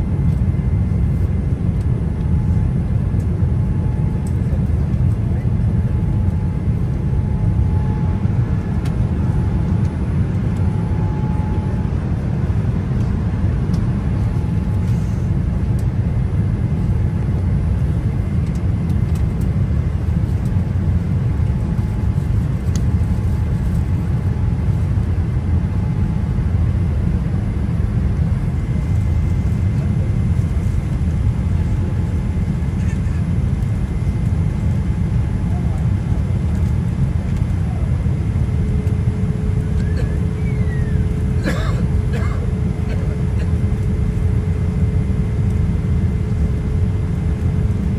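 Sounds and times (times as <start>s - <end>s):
airliner engine rumble: 0.0s - 47.9s
faint steady hum: 0.0s - 47.9s.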